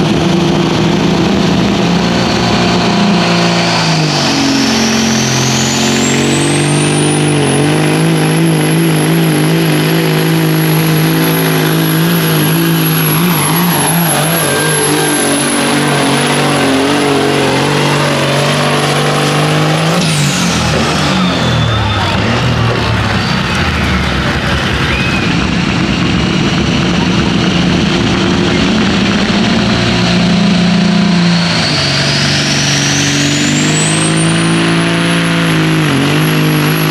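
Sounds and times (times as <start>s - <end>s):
diesel truck engine under load: 0.0s - 36.9s
turbocharger whine: 0.0s - 36.9s.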